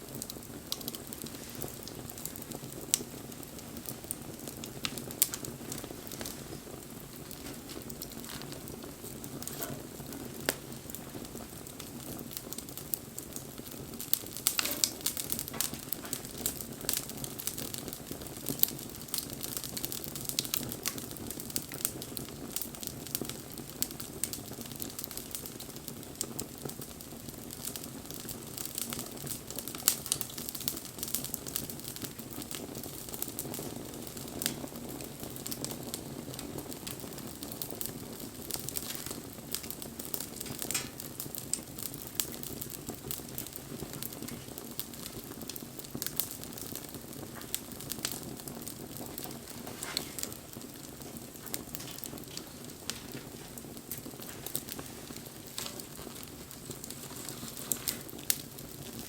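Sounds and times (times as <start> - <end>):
low rush of burning: 0.0 - 21.6, 27.6 - 59.0
bonfire crackling and popping: 0.0 - 59.0.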